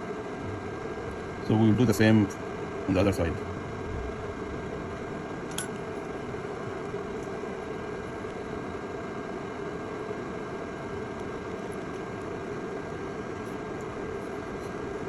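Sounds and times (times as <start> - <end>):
small fan whirring: 0.0 - 15.0.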